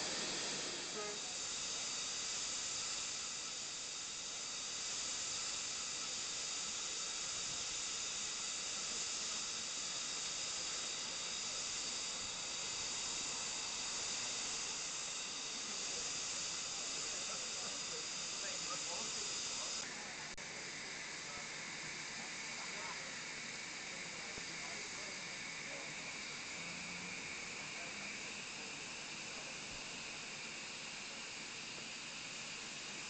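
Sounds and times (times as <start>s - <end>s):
steam locomotive hissing: 0.0s - 33.0s.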